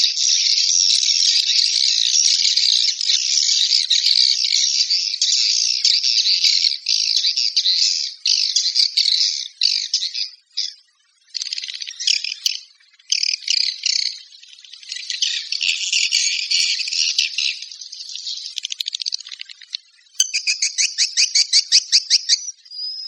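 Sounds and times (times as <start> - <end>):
recorded swiftlet calls: 0.0 - 23.0.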